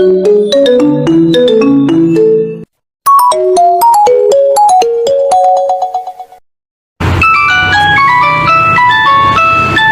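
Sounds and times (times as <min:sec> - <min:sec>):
phone ringtone melody: 0:00.0 - 0:06.4, 0:07.2 - 0:09.9.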